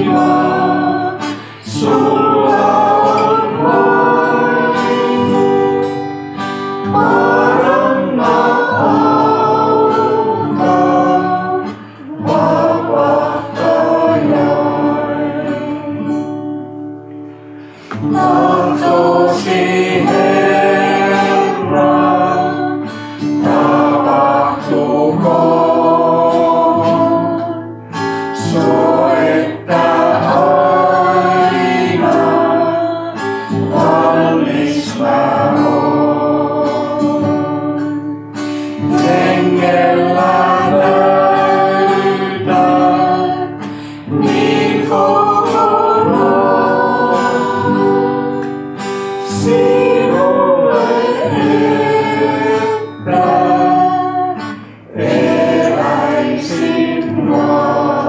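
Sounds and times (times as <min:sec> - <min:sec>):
acoustic guitar: 0:00.0 - 0:58.0
people singing: 0:00.0 - 0:58.0.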